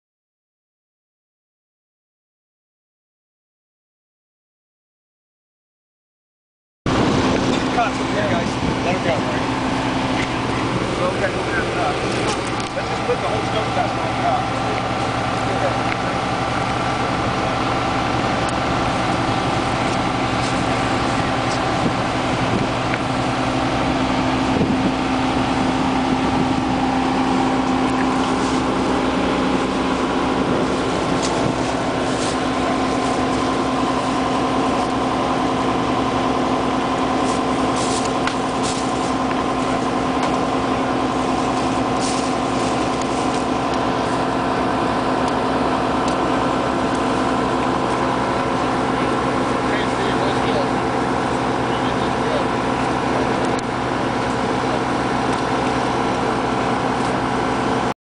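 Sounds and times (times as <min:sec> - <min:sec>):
large vehicle engine idling: 0:06.9 - 0:57.9.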